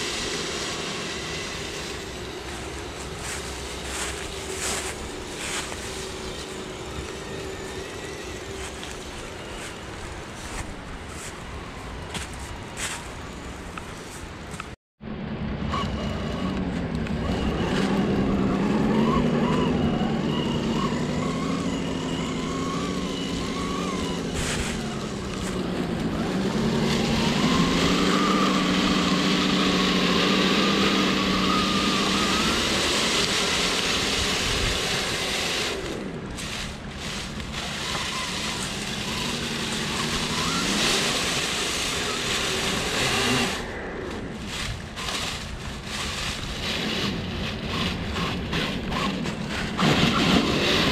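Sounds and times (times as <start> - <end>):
electric motor whining: 0.0 - 14.8, 15.6 - 50.9.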